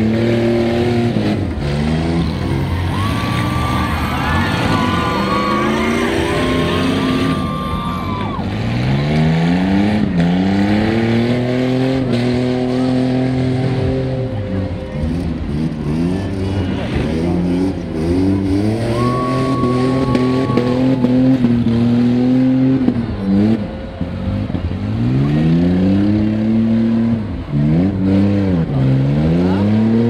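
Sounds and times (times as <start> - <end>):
truck engines revving hard: 0.0 - 30.0.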